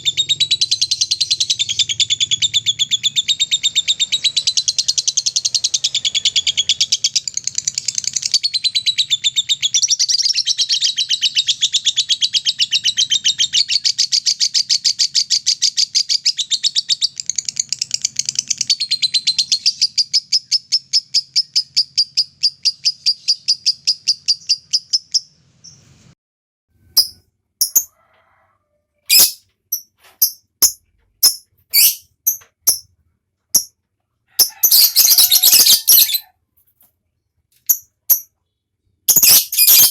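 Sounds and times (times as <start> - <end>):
lovebird chattering trill: 0.0 - 25.8, 27.0 - 27.9, 29.1 - 32.9, 34.4 - 36.3, 37.7 - 38.3, 39.1 - 39.9
bird chirps: 0.0 - 26.2, 26.8 - 27.9, 29.1 - 33.0, 34.4 - 36.3, 37.6 - 39.9.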